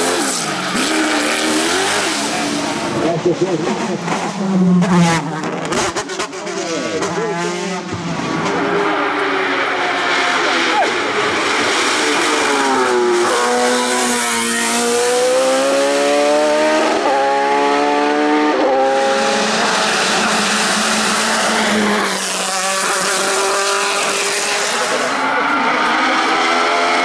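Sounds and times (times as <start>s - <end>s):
race car engine at high revs: 0.0s - 27.0s
second race car engine: 0.0s - 27.0s.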